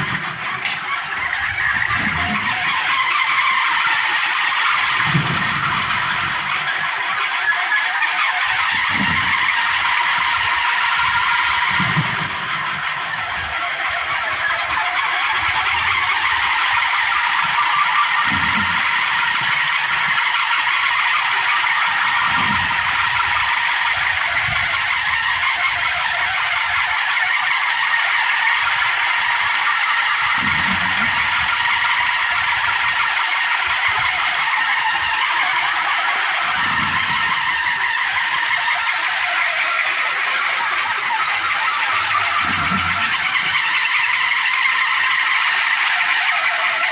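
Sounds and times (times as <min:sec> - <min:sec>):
wind propeller whirring: 0:00.0 - 0:46.9.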